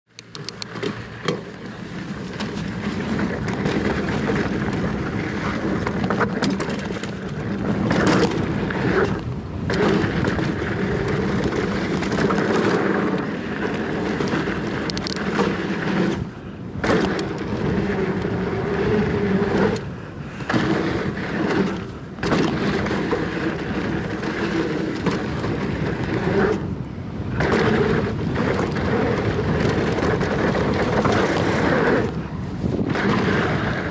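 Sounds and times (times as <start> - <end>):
wind rushing on microphone: 0.2 - 33.9
bike tyres crunching on dirt: 0.3 - 33.9.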